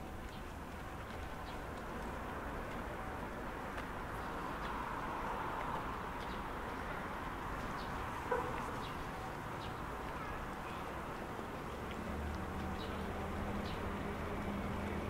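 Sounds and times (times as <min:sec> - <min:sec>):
outdoor background rush: 0:00.0 - 0:15.0.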